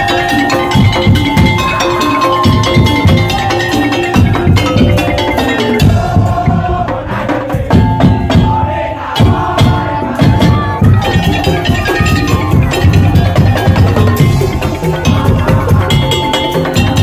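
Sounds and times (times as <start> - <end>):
sustained melody: 0.0 - 6.8, 8.6 - 17.0
slit-drum and drum beats: 0.0 - 17.0.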